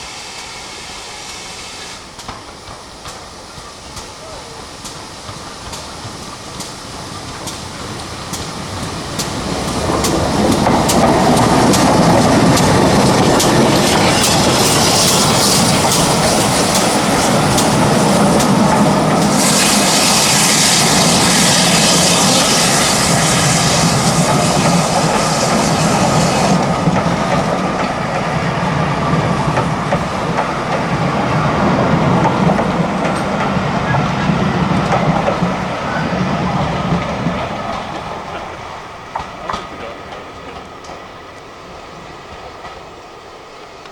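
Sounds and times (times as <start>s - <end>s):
loud hiss: 0.0s - 39.2s
train passing: 0.0s - 43.9s
wheels clicking over rail joints: 0.2s - 41.5s.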